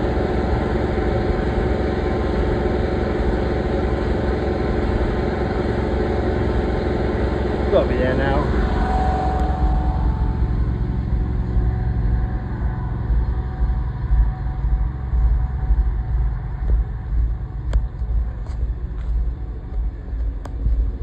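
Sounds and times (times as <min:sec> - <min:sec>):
drain jetter engine rumbling: 0:00.0 - 0:21.0.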